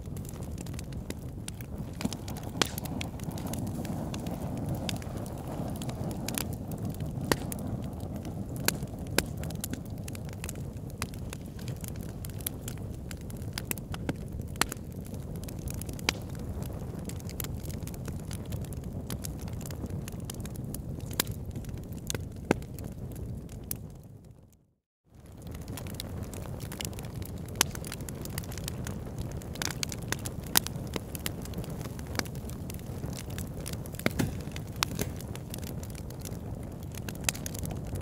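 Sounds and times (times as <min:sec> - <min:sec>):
fire crackling: 0:00.0 - 0:38.0.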